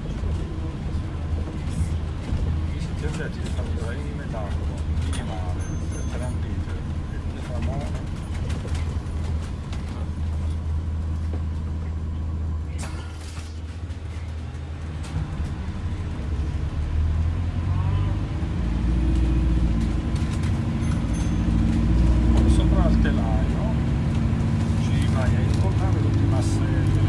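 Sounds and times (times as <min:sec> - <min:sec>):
bus drivetrain rumble: 0:00.0 - 0:27.0.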